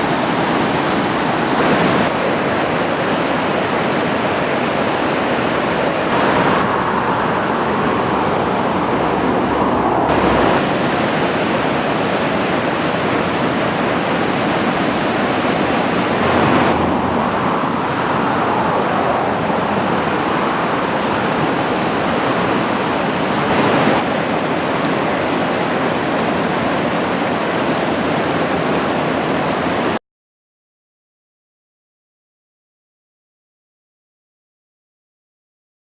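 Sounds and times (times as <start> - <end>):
rush of fast water: 0.0 - 30.0.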